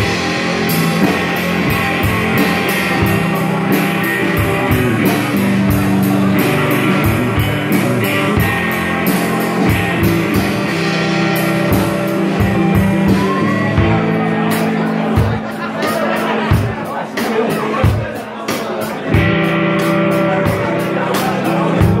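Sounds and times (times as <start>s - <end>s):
bass guitar: 0.0s - 22.0s
drum beat: 0.0s - 22.0s
electric guitar: 0.0s - 22.0s.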